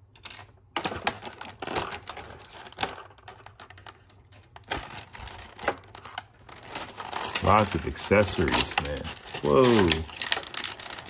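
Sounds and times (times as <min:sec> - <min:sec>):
plastic pieces clicking and clattering: 0:00.0 - 0:11.0.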